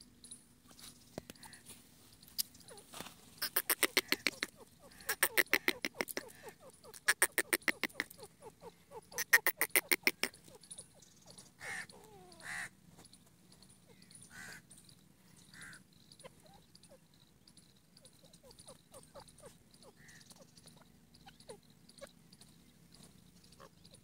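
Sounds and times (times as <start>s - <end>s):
francolin calling: 2.4s - 12.8s, 13.6s - 24.0s.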